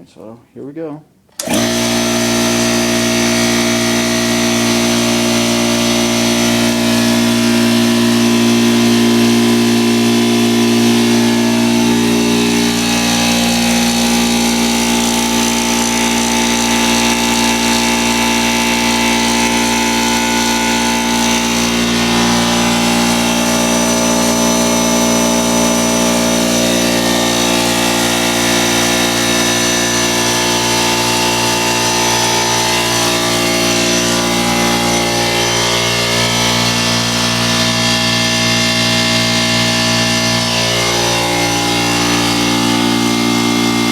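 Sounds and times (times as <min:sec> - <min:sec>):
air compressor running: 0:01.3 - 0:43.9.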